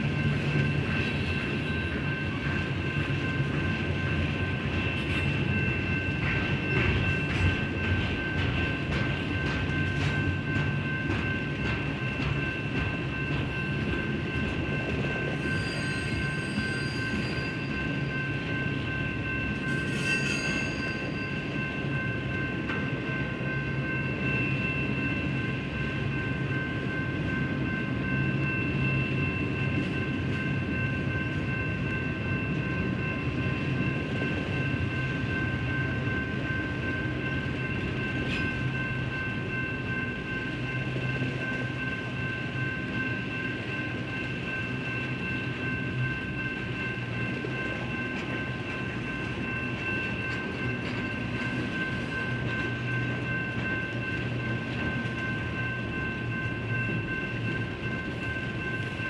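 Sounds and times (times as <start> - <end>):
high-pitched ringing tones: 0.0 - 59.0
train wheels rumbling on rails: 0.0 - 59.0.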